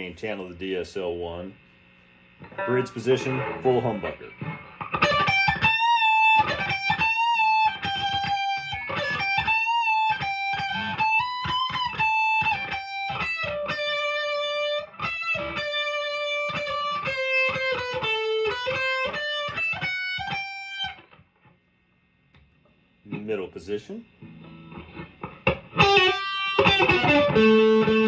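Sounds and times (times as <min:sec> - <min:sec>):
distorted electric guitar lead: 0:02.4 - 0:21.2, 0:24.2 - 0:28.0.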